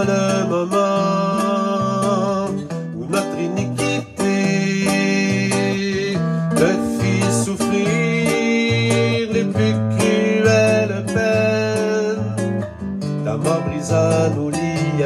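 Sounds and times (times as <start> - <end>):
man singing: 0.0 - 15.0
nylon-string guitar bossa nova: 0.0 - 15.0.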